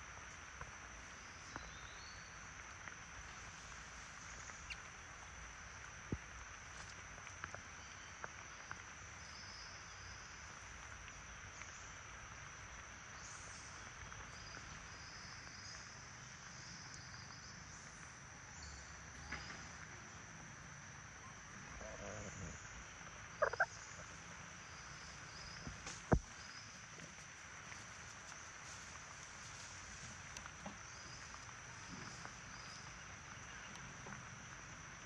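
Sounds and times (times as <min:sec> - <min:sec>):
insects and frogs calling: 0:00.0 - 0:35.0.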